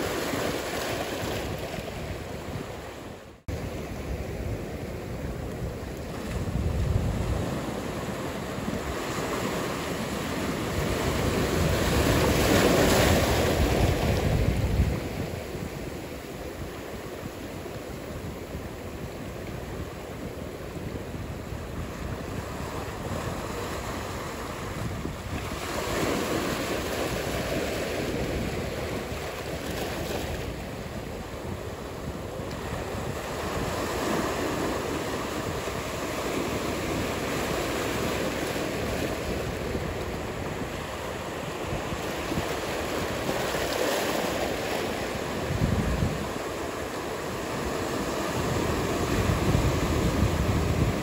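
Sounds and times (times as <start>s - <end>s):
ocean waves breaking: 0.0s - 51.0s.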